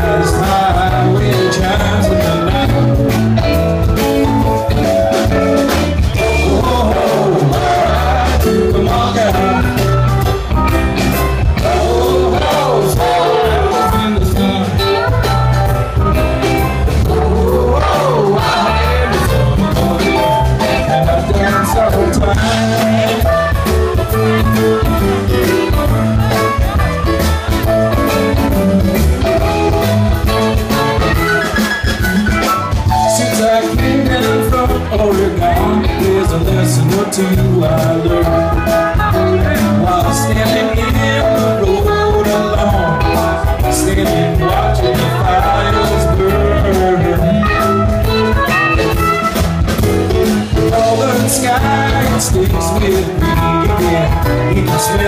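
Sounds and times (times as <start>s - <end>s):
person singing: 0.0s - 10.3s, 11.1s - 31.6s, 32.8s - 49.5s, 50.1s - 55.0s
drum kit: 0.0s - 55.0s
electric guitar: 0.0s - 55.0s
keyboards: 0.0s - 55.0s.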